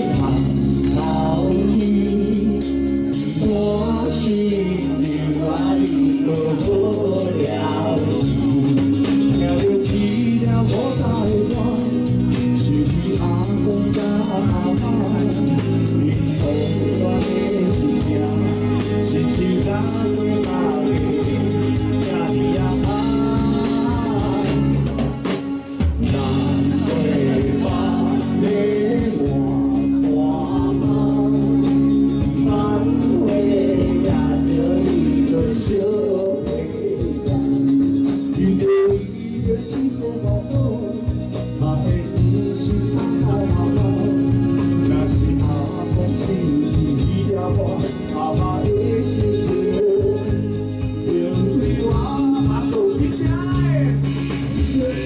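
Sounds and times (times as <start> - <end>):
bass and guitar: 0.0 - 55.0
drums: 0.0 - 55.0
person singing: 0.0 - 55.0.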